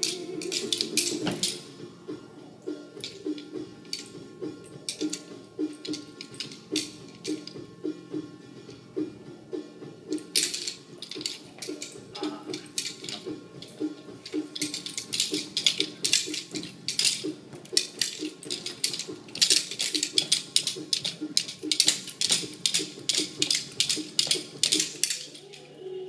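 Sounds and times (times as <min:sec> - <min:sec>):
wooden clappers clacking: 0:00.0 - 0:01.7, 0:03.0 - 0:07.6, 0:10.1 - 0:25.7.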